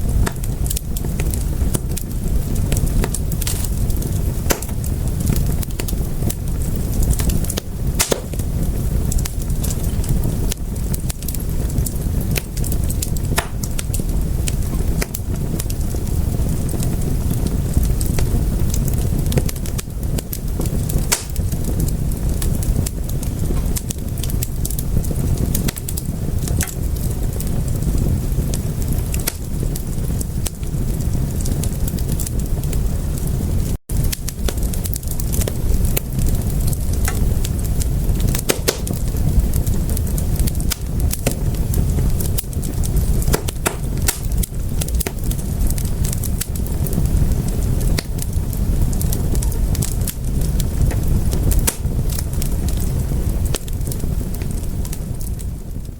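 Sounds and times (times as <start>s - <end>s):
low rumble of flames: 0.0s - 55.9s
wood fire crackling: 0.0s - 55.9s.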